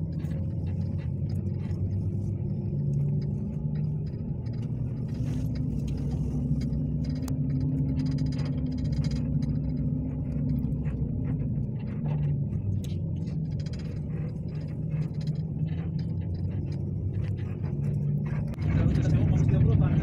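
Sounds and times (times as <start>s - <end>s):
bus engine hum: 0.0s - 20.0s
clicks and rattles: 0.0s - 20.0s
road rumble: 0.0s - 20.0s.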